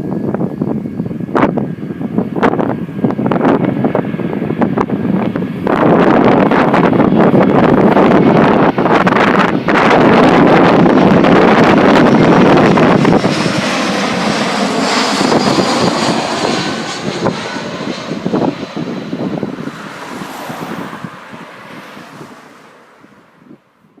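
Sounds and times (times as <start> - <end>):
jet airliner passing overhead: 0.0 - 24.0
wind buffeting microphone: 0.0 - 24.0.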